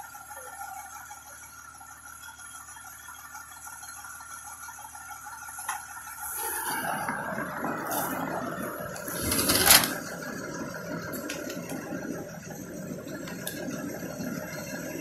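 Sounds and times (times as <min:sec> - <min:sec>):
fire engine running: 0:00.0 - 0:15.0.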